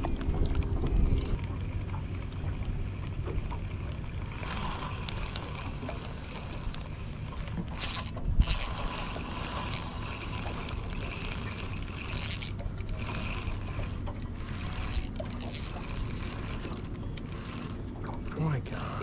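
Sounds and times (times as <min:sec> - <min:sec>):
fishing reel whirring: 0:01.2 - 0:19.0
fishing reel cranking: 0:01.3 - 0:19.0.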